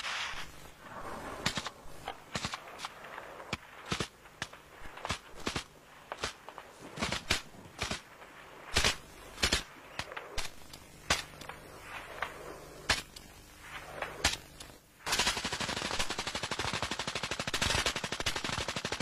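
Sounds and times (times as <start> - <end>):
single gunshots: 0.0 - 15.4
automatic machine-gun fire: 0.0 - 19.0.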